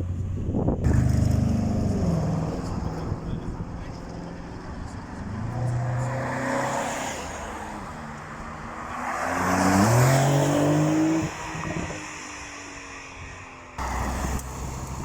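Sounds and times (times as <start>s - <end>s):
car engines accelerating hard: 0.5s - 15.0s.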